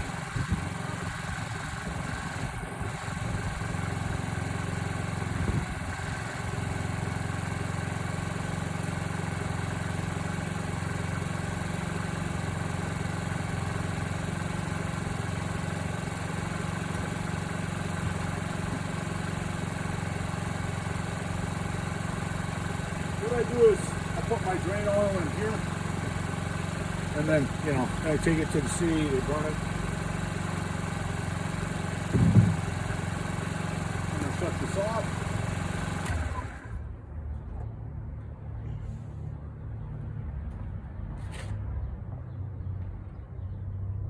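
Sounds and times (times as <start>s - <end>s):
scooter engine idling: 0.0s - 37.6s.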